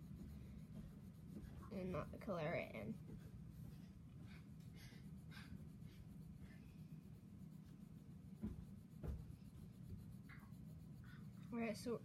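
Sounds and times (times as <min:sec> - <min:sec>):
pencil scratching on paper: 0:00.0 - 0:04.0, 0:04.8 - 0:12.0
low steady hum: 0:00.0 - 0:12.0.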